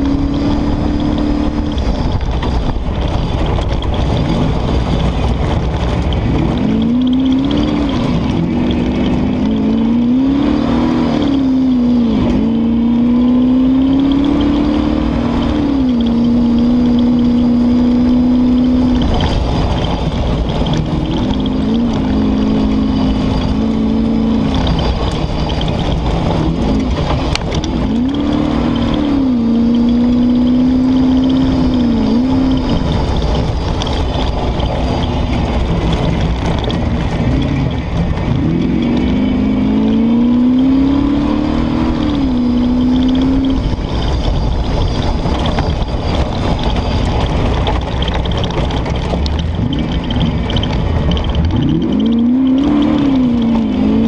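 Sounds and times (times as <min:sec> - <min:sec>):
car engine working hard: 0:00.0 - 0:54.0.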